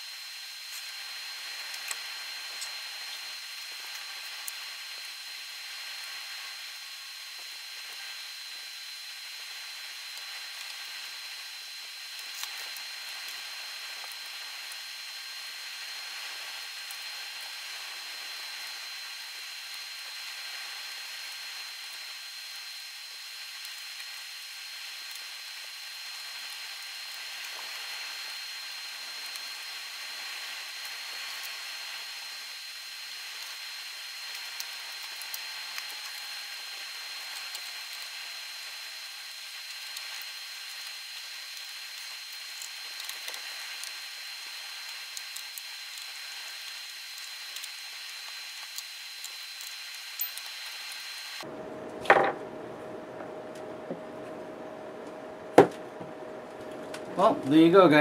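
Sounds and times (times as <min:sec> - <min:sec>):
steady hiss: 0:00.0 - 0:58.0
thin high whine: 0:00.0 - 0:58.0.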